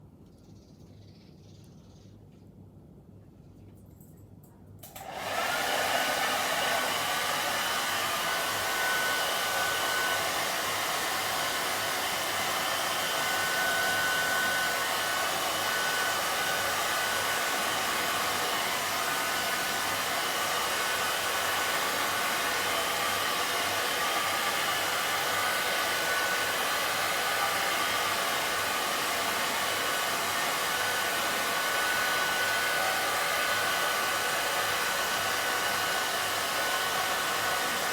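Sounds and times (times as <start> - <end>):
hair dryer blowing: 4.8 - 37.9.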